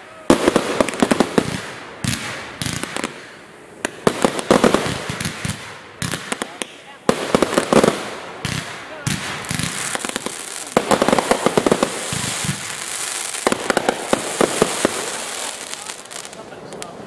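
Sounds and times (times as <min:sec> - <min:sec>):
fireworks crackle and hiss: 0:00.0 - 0:17.0
fireworks bangs and pops: 0:00.3 - 0:17.0.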